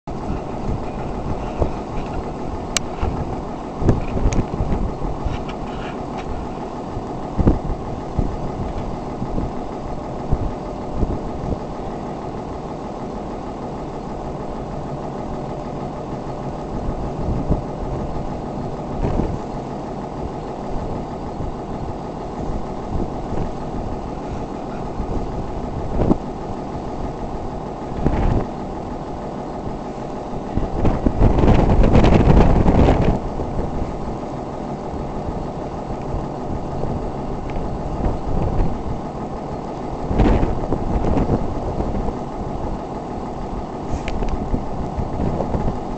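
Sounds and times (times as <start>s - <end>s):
pumpjack mechanical hum: 0.0s - 45.9s
rough rumbling: 0.1s - 45.9s.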